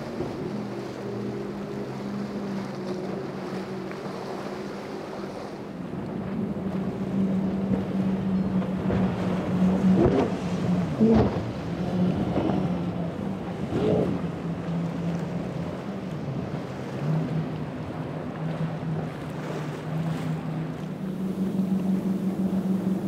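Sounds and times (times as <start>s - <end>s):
powerboat engines humming: 0.0s - 23.0s
sea wash: 0.0s - 23.0s.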